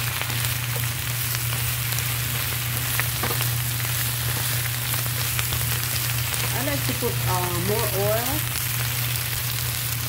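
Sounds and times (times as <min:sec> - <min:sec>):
leaves sizzling in oil: 0:00.0 - 0:10.0
steady low hum: 0:00.0 - 0:10.0.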